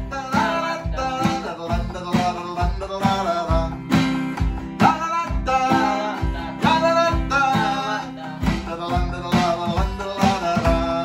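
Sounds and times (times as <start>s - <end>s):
acoustic guitar strumming: 0.0s - 11.0s
electronic drum rock beat: 0.0s - 11.0s.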